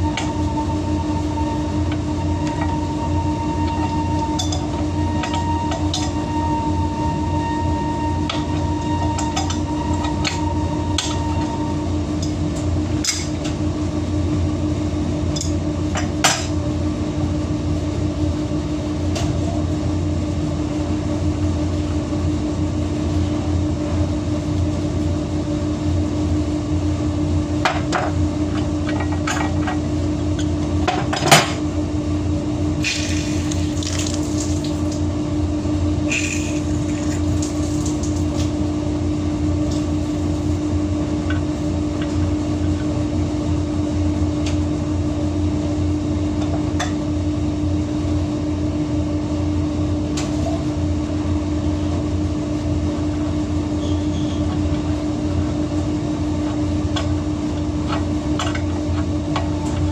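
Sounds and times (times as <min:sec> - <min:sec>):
steady machine hum: 0:00.0 - 0:59.9.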